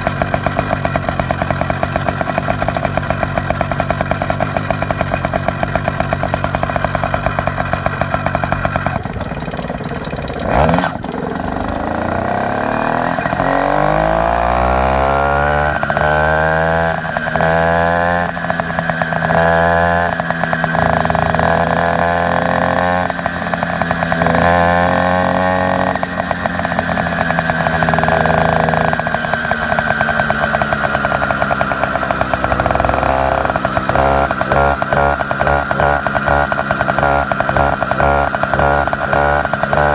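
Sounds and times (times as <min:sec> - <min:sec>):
small motorbike engine idling and revving: 0:00.0 - 0:39.9.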